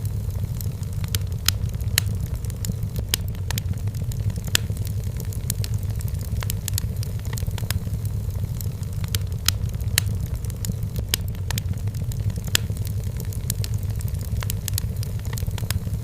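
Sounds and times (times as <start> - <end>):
fire flames rumbling: 0.0 - 16.0
firewood crackling and popping: 0.0 - 16.0.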